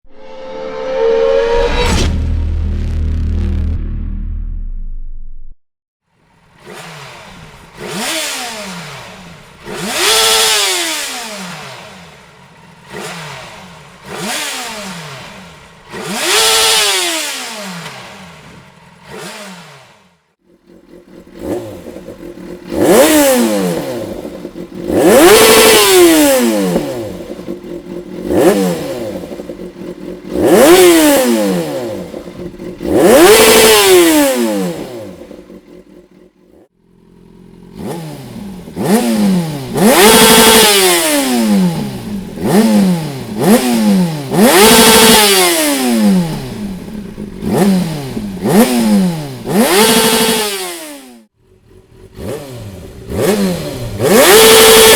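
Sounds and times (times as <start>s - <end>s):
motorcycle engine revving: 6.1s - 54.9s.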